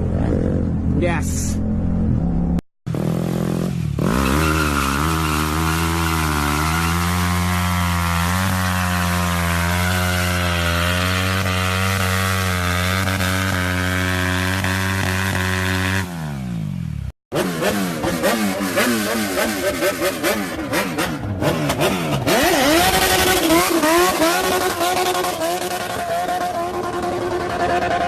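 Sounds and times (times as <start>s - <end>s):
motorcycle engine revving: 0.0s - 28.0s
motorcycle engine running: 1.6s - 28.0s.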